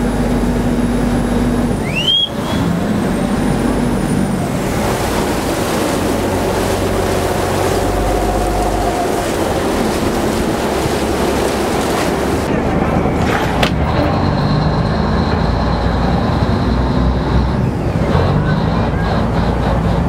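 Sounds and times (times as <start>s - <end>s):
boat diesel engine running: 0.0s - 20.0s
water churning along hull: 0.0s - 20.0s.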